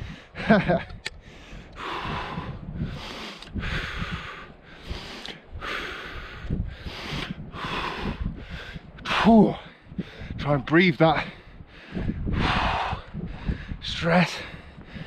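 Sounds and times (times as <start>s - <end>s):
man breathing heavily: 0.0s - 0.4s, 1.1s - 10.4s, 11.2s - 15.0s.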